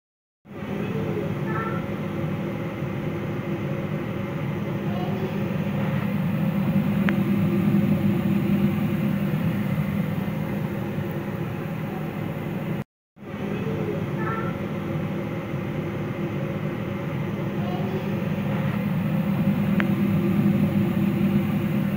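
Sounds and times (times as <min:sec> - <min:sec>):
low even hum: 0:00.5 - 0:21.9.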